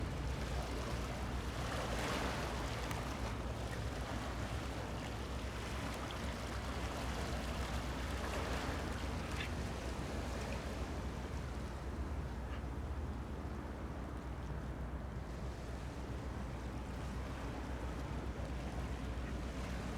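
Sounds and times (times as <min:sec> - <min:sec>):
wind: 0:00.0 - 0:19.9.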